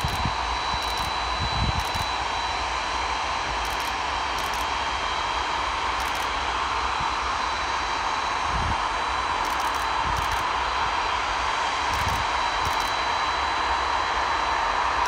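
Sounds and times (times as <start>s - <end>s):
high steady whine: 0.0s - 15.0s
jet engines running: 0.0s - 15.0s.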